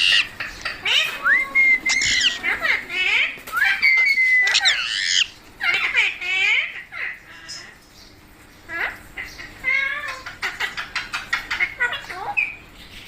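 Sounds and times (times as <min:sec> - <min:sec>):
parrot squawking and chattering: 0:00.0 - 0:07.8, 0:08.7 - 0:12.7.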